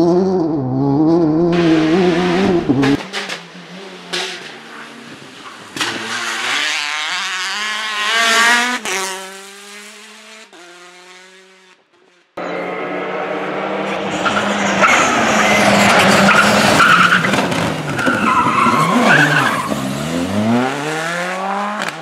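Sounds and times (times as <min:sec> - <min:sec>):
car engine accelerating: 0:00.0 - 0:11.6, 0:12.4 - 0:22.0
rally car engine at high revs: 0:00.0 - 0:11.8, 0:12.4 - 0:22.0.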